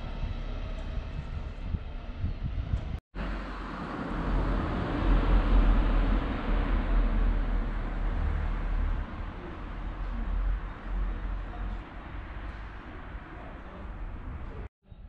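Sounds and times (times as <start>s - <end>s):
road traffic rumble and hiss: 0.0s - 14.7s.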